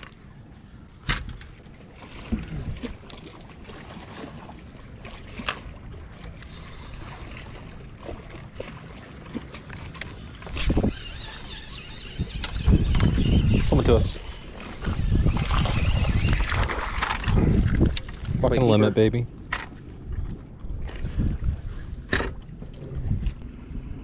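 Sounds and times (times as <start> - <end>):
wind and water rumble: 0.0 - 24.0.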